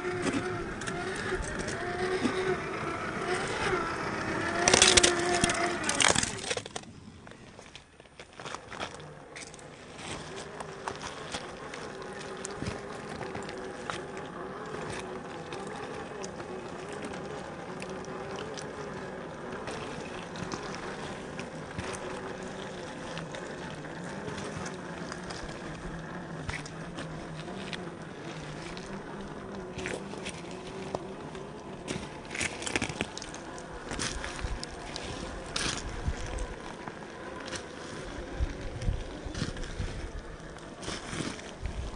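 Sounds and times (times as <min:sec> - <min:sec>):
electric motor whining: 0:00.0 - 0:06.9, 0:08.4 - 0:41.9
tyres crunching on ice and rock: 0:00.0 - 0:41.9.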